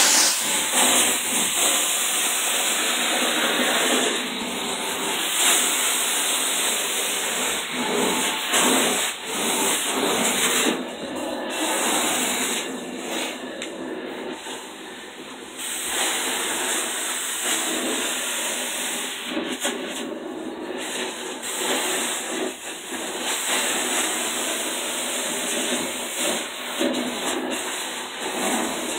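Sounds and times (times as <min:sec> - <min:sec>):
vacuum hose sucking air: 0:00.0 - 0:28.9.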